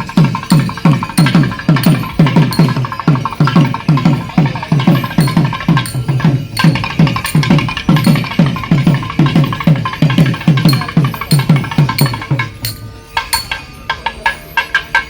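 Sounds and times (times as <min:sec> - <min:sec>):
drums beaten in fast rhythm: 0:00.0 - 0:15.0.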